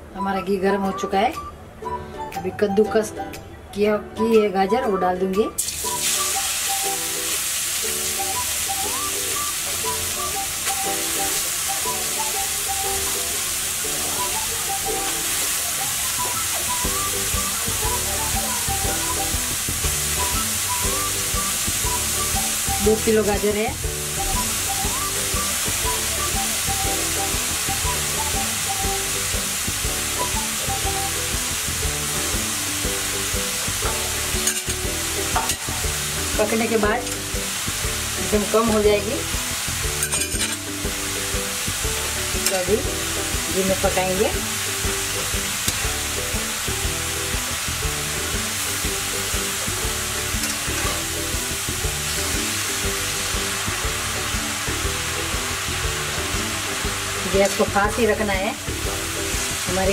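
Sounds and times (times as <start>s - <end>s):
food sizzling in hot fat: 5.6s - 59.9s.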